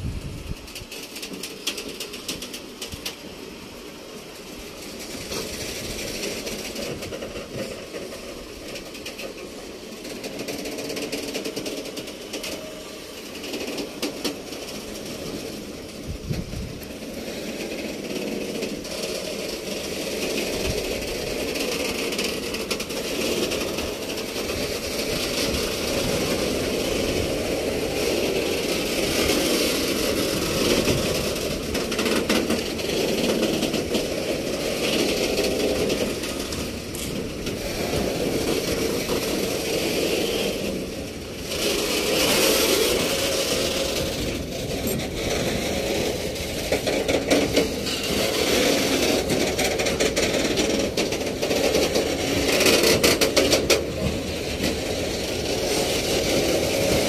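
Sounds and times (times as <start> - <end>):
freight train wheels rumbling: 0.0 - 57.0
sharp clacks of train wheels: 0.0 - 57.0.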